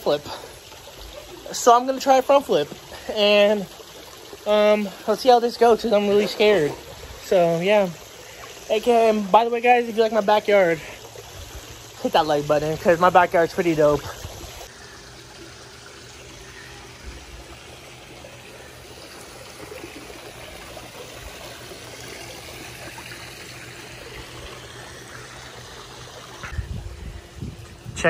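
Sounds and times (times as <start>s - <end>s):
water trickling into pool: 0.0s - 28.0s.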